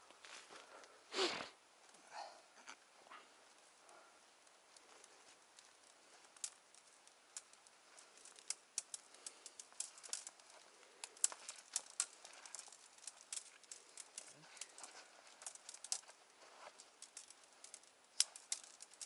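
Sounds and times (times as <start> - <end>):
twigs and branches crackling: 0.0 - 19.0.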